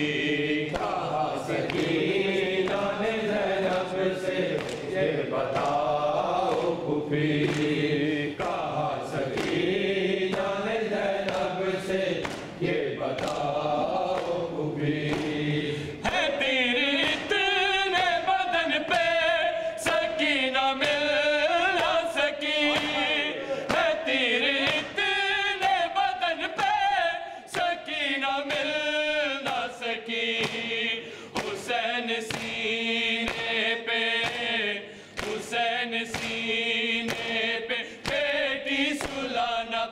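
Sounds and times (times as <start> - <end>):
chest-beating slaps: 0.0 - 18.1, 19.8 - 25.7, 27.5 - 39.4
lead voice chanting: 0.0 - 39.9
men chanting: 0.0 - 39.9.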